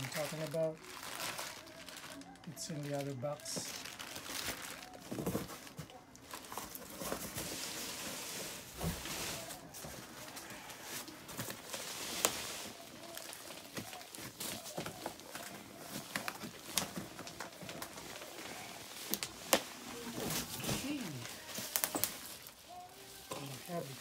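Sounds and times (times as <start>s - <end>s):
cardboard rustling and scraping: 4.4s - 24.0s.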